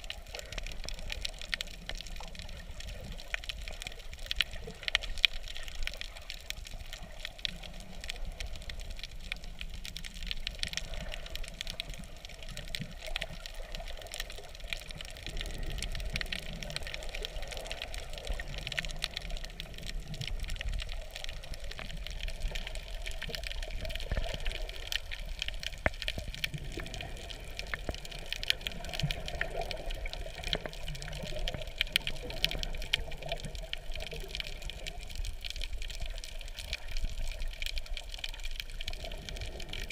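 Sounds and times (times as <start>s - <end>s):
faint crackling clicks: 0.0s - 39.9s
underwater rush of water: 0.0s - 39.9s.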